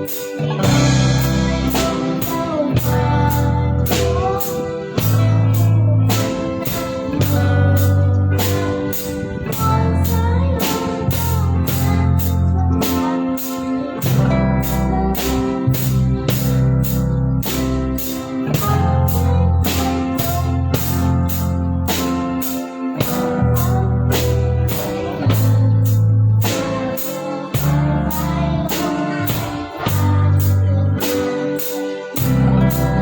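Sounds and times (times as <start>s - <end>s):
band playing live: 0.0s - 33.0s
drum kit steady beat: 0.0s - 33.0s.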